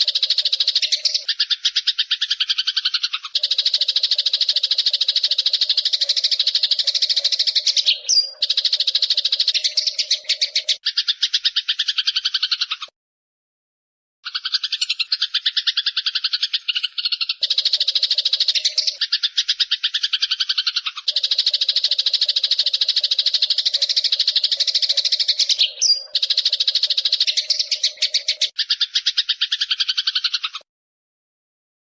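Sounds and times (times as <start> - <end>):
sparrow chirping: 0.0 - 12.9, 14.2 - 30.6.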